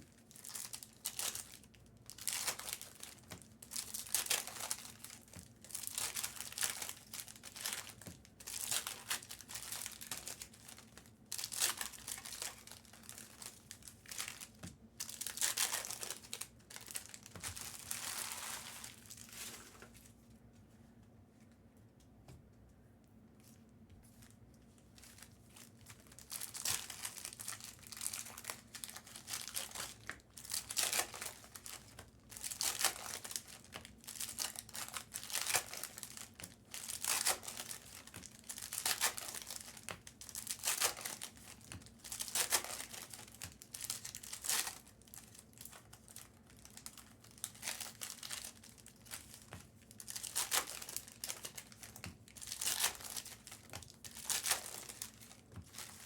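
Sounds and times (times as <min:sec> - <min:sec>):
packaging crinkling and tearing: 0:00.1 - 0:20.1, 0:25.0 - 0:56.0.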